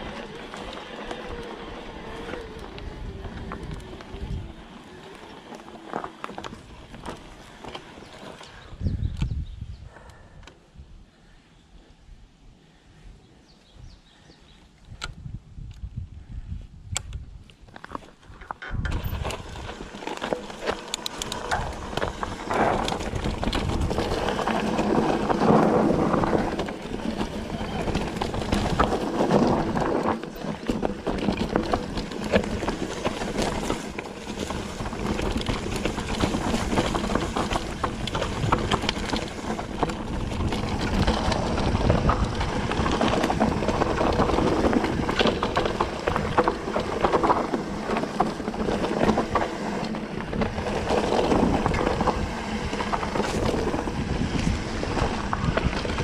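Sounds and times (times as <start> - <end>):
wind buffeting microphone: 0.0 - 5.1, 8.5 - 11.1, 14.9 - 17.5, 21.4 - 56.0
bike clicking and rattling: 0.0 - 9.4, 16.9 - 56.0
bike tyre noise: 0.0 - 10.4, 15.2 - 56.0.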